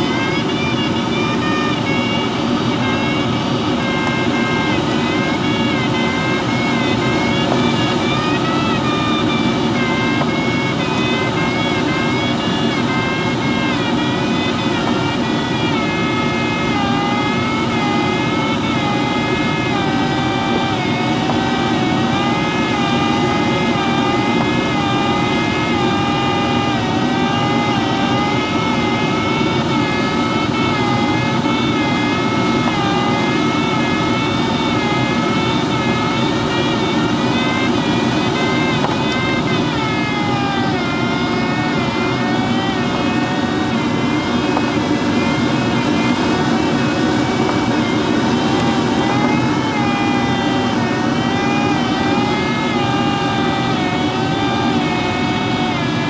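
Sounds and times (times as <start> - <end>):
airflow rushing around canopy: 0.0 - 56.0
variometer wavering tone: 0.0 - 56.0.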